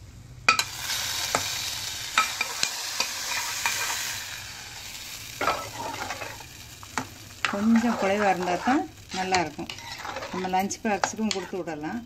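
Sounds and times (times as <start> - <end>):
hot oil sizzling: 0.4 - 12.0.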